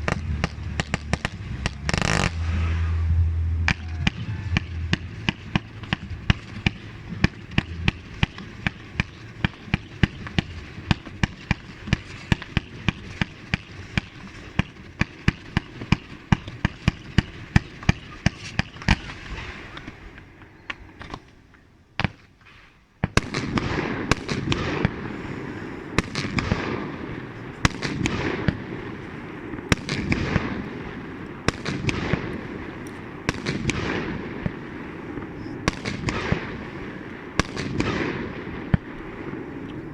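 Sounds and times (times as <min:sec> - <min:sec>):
fireworks bangs: 0:00.0 - 0:21.3, 0:22.0 - 0:39.9
fireworks crackling: 0:00.0 - 0:21.3, 0:22.0 - 0:39.9.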